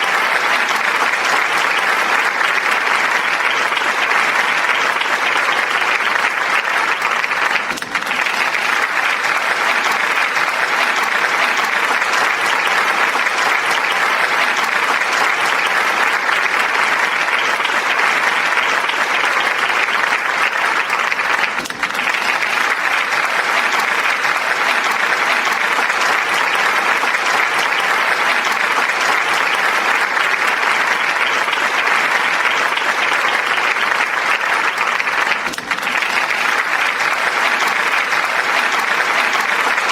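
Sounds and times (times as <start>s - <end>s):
crowd applauding: 0.0s - 39.9s.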